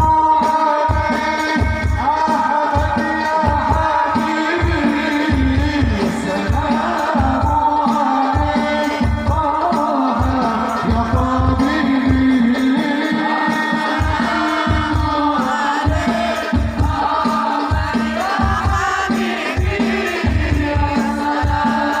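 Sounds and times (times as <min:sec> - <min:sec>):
voices singing devotional song: 0:00.0 - 0:22.0.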